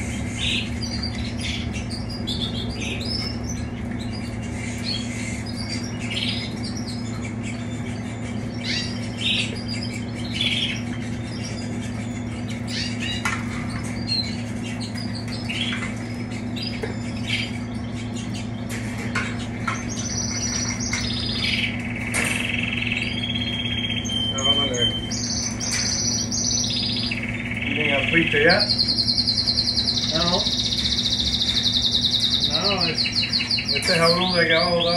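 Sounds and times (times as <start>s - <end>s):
canaries chirping and calling: 0.0s - 34.9s
canary warbling song: 0.0s - 34.9s
steady low hum: 0.0s - 34.9s.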